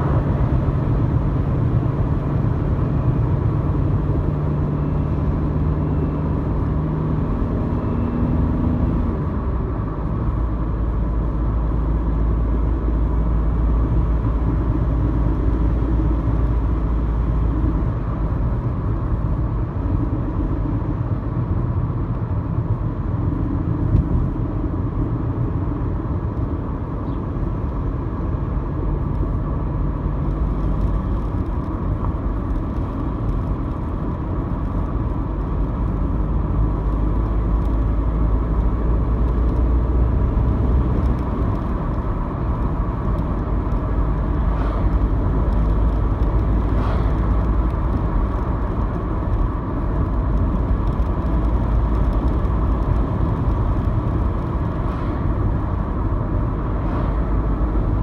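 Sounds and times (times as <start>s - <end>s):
road rumble inside moving car: 0.0s - 58.0s.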